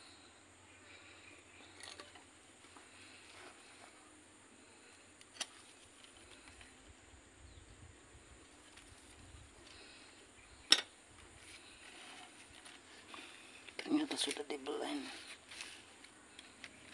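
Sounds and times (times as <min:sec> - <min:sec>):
faint steady background: 0:00.0 - 0:16.9.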